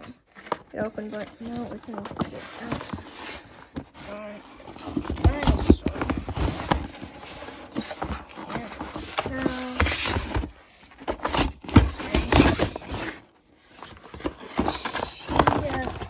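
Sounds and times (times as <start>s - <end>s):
cardboard box scraping and knocking: 0.0s - 16.0s.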